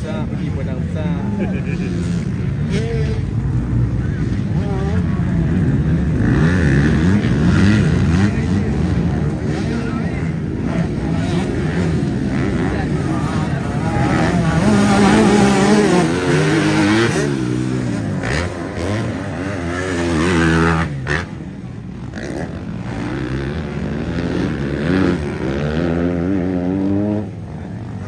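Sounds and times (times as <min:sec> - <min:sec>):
motocross bikes racing past: 0:00.0 - 0:28.0.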